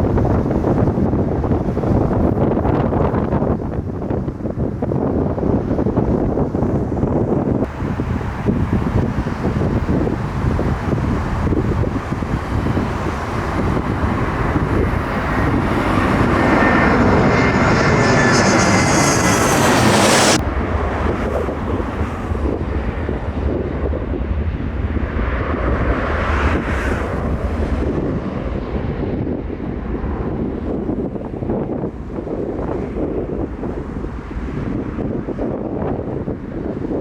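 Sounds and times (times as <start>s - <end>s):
jet engines passing close: 0.0s - 37.0s
wind noise on microphone: 0.0s - 37.0s.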